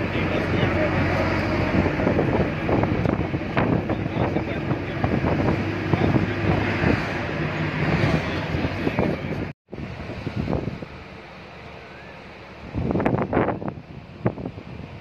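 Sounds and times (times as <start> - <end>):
wind buffeting microphone: 0.0 - 11.2, 12.5 - 15.0
vehicle engine and road rumble: 0.0 - 15.0.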